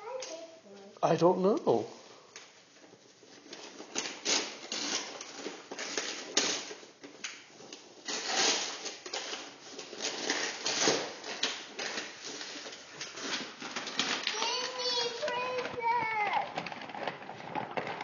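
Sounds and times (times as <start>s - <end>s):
wrapping paper tearing and crinkling: 3.2s - 18.0s.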